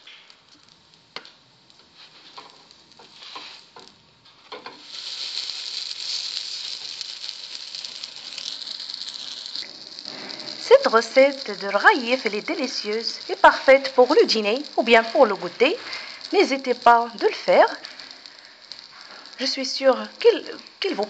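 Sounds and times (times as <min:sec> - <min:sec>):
bread sizzling in pan: 0:00.0 - 0:21.0.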